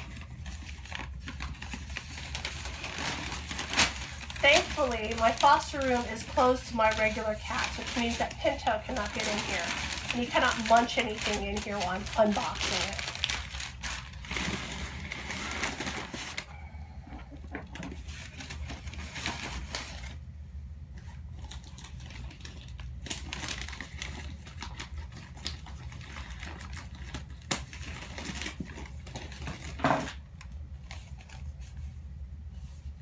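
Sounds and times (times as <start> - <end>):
packing material rustling: 0.0 - 16.6, 18.0 - 20.2, 21.0 - 32.0.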